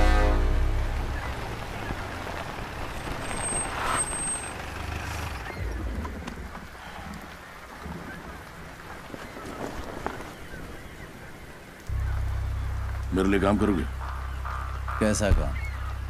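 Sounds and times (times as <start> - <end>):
vehicle engine rumbling: 0.0 - 10.2, 11.8 - 16.0.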